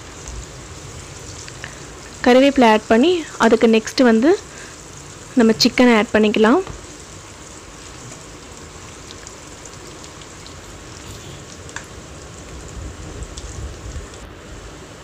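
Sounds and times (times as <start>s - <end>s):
onions frying in oil: 0.0s - 15.0s.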